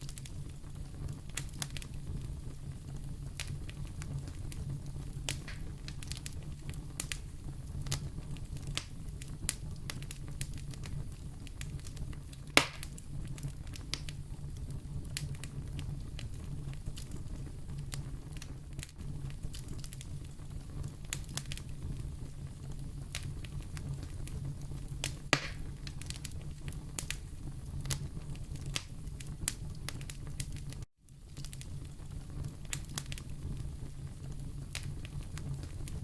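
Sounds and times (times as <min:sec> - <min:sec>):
fire crackling in fireplace: 0:00.0 - 0:36.0.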